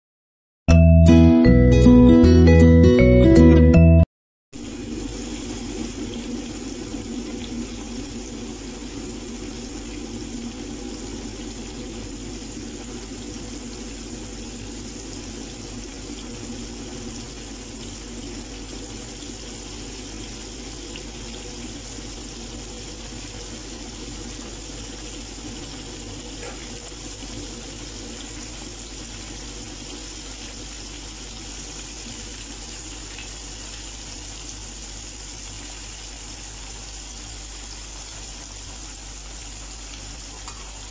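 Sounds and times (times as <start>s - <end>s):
chicken deep-frying in hot oil: 4.6s - 40.9s.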